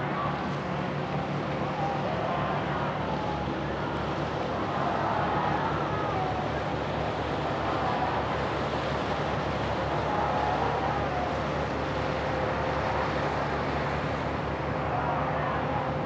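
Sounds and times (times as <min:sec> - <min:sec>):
ferry engines droning: 0:00.0 - 0:16.0
wind and water rushing: 0:00.0 - 0:16.0.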